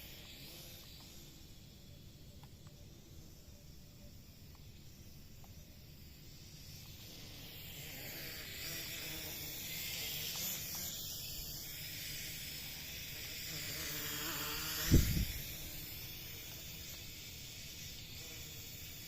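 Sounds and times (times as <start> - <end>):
toy drone propellers buzzing: 0.0 - 19.0.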